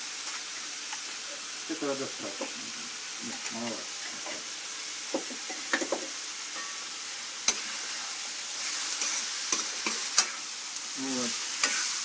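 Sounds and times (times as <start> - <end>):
tomatoes sizzling in a wok: 0.0 - 12.0.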